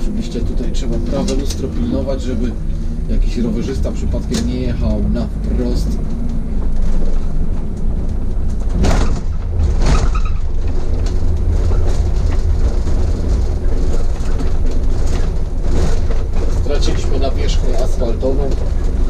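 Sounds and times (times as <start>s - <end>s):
bus engine and tyre rumble: 0.0s - 19.0s.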